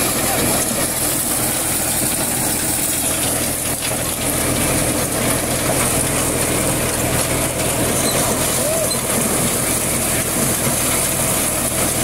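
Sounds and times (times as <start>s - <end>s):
corn thresher running: 0.0s - 12.0s
tractor engine drone: 0.0s - 12.0s.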